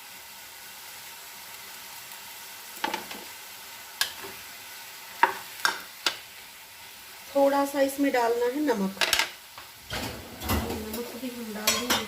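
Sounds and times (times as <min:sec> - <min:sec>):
tomatoes sizzling in a pan: 0:00.0 - 0:12.0.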